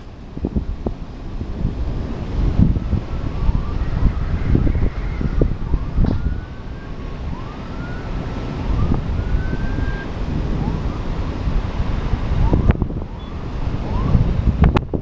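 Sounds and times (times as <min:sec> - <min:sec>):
emergency vehicle siren: 0:00.0 - 0:15.0
wind noise on microphone: 0:00.0 - 0:15.0.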